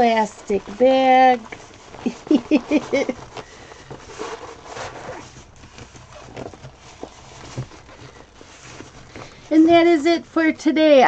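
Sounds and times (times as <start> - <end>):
plastic film rustling and crinkling: 0.0 - 11.0.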